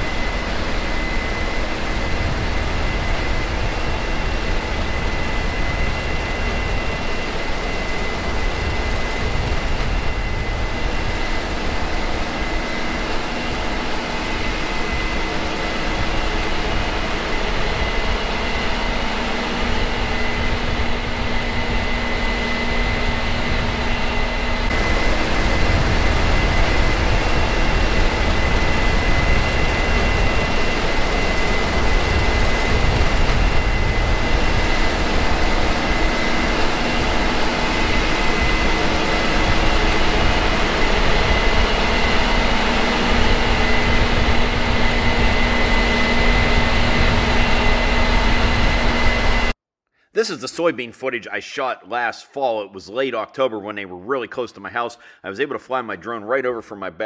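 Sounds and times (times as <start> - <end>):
harvest machinery engine: 0.0 - 49.4
high whine: 0.0 - 49.6.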